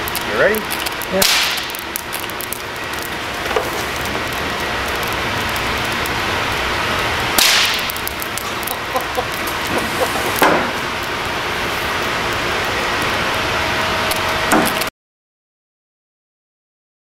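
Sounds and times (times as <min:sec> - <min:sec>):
electric discharge crack: 0:00.0 - 0:14.9
small spark crackles: 0:00.0 - 0:14.9.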